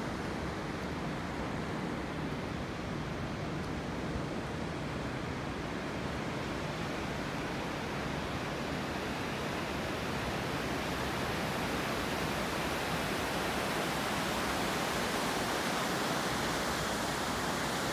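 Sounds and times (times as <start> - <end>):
river rushing over stones: 0.0 - 17.9.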